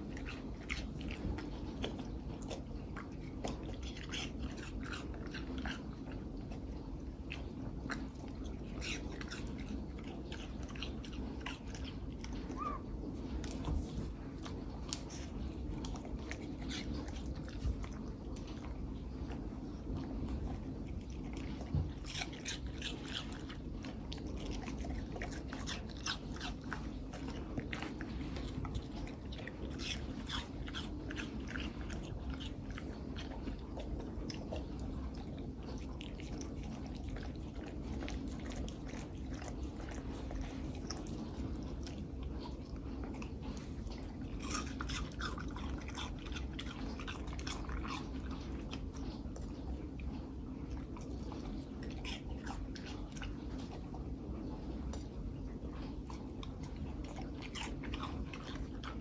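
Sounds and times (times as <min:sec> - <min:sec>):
dog crunching watermelon: 0:00.0 - 0:59.0.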